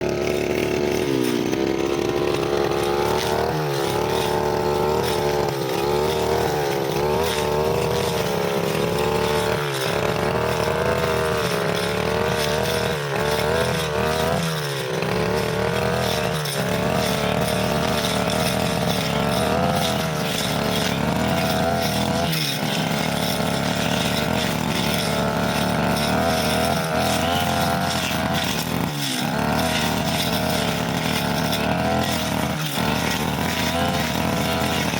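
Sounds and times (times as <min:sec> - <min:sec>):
brushcutter cutting grass: 0:00.0 - 0:34.9.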